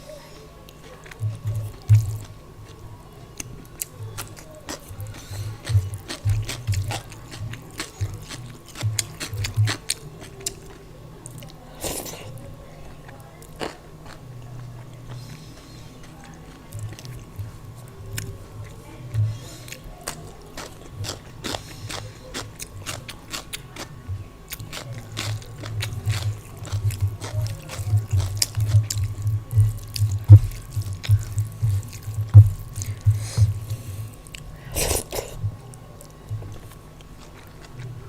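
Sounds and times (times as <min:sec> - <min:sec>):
crunch: 0:00.7 - 0:23.9, 0:24.5 - 0:37.9
wet chewing and mouth clicks: 0:00.7 - 0:23.9, 0:24.5 - 0:38.0.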